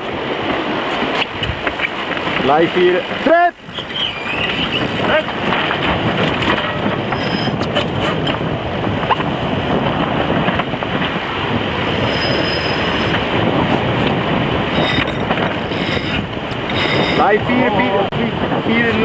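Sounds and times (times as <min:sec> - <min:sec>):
strong wind buffeting microphone: 0:00.0 - 0:19.0
water rushing along hull: 0:00.0 - 0:19.0.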